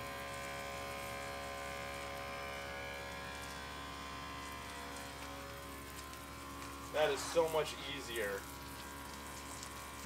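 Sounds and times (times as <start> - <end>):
electric pump buzzing hum: 0.0 - 10.0.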